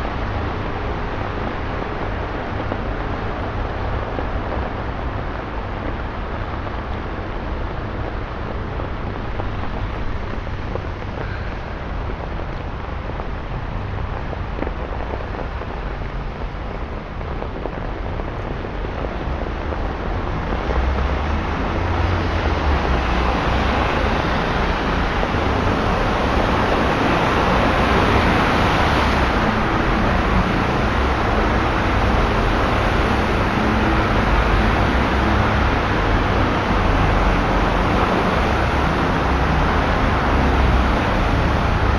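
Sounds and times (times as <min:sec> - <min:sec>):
low engine rumble: 0:00.0 - 0:41.9.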